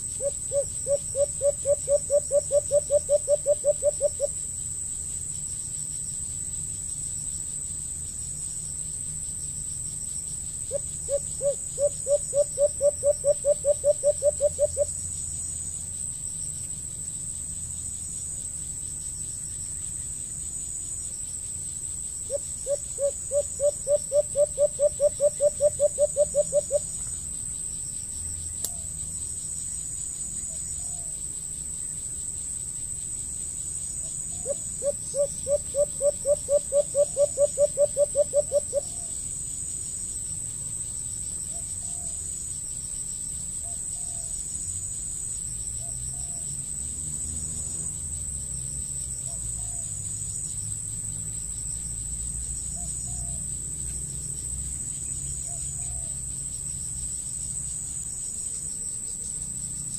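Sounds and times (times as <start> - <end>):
insect buzzing: 0.0 - 59.9.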